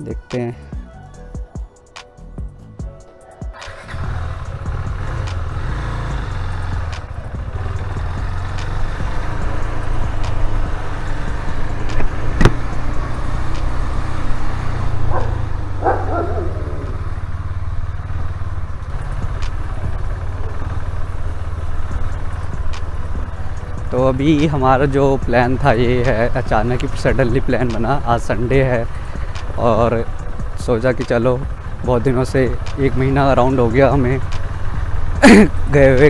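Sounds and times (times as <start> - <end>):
motorcycle engine rumbling: 2.5 - 36.0.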